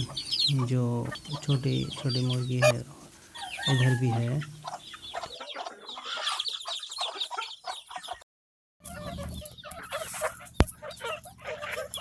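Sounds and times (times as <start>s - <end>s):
chickens and chicks peeping: 0.0s - 8.2s, 8.8s - 12.0s.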